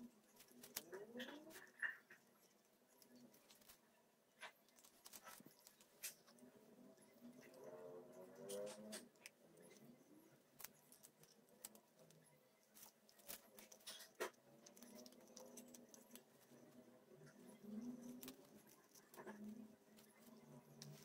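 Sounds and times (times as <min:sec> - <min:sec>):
needle and thread scratching: 0:00.0 - 0:21.0.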